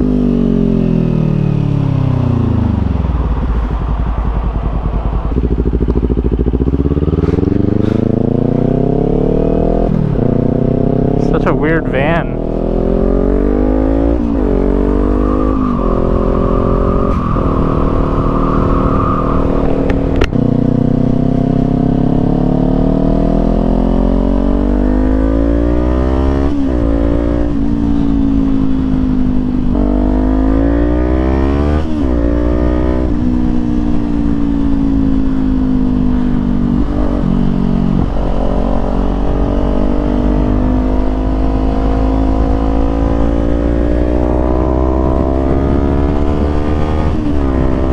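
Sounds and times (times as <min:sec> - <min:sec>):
motorcycle accelerating and shifting gears: 0:00.0 - 0:47.9
wind rush: 0:01.9 - 0:09.0, 0:09.6 - 0:21.8, 0:25.5 - 0:47.9.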